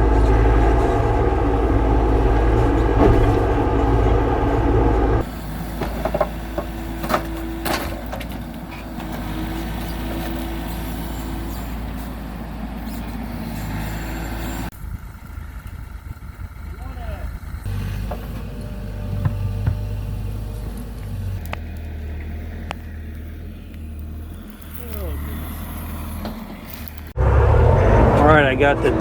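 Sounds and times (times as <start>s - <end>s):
hydraulic whine: 0.0s - 16.7s, 17.4s - 29.0s
excavator engine running: 0.0s - 29.0s.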